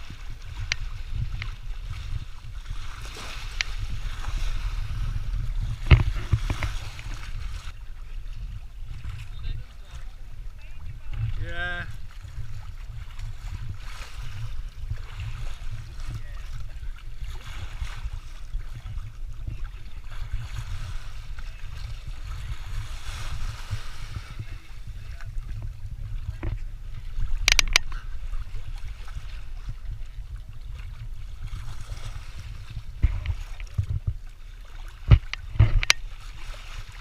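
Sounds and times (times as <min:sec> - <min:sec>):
low rumble: 0:00.0 - 0:36.2
water rushing: 0:00.0 - 0:37.0
wind: 0:00.0 - 0:37.0.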